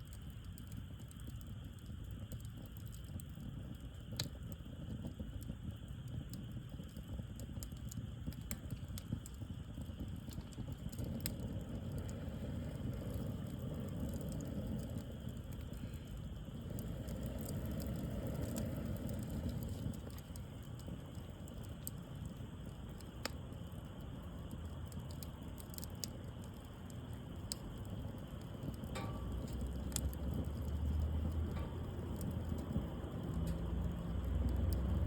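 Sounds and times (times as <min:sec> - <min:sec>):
bonfire crackles and pops: 0:00.0 - 0:35.0
low fire rumble: 0:00.0 - 0:35.0.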